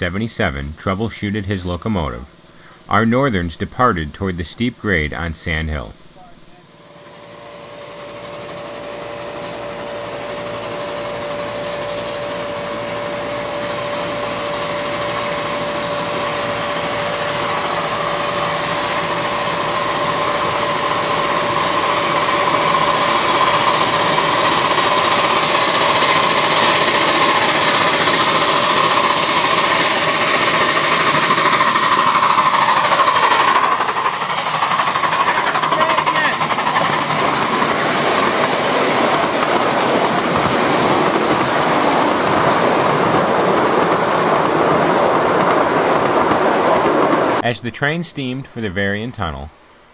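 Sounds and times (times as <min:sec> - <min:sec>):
steam locomotive exhaust chuffing: 0:00.0 - 0:47.5.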